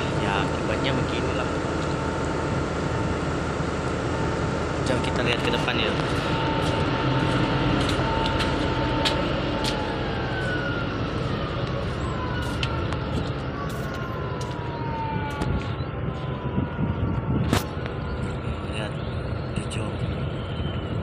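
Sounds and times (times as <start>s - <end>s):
faint whining tones: 0.0s - 21.0s
wind: 0.0s - 21.0s.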